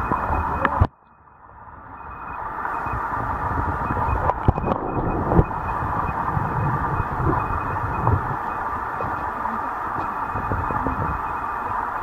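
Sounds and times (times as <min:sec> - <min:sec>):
stream water rushing underwater: 0:00.0 - 0:12.0.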